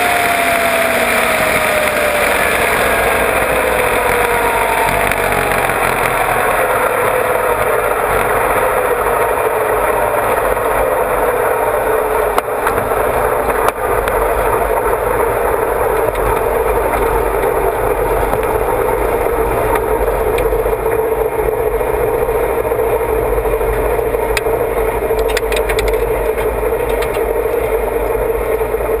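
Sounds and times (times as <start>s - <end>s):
chassis rattle: 0.0s - 29.0s
dragster engine running: 0.0s - 29.0s
wind noise: 0.0s - 29.0s.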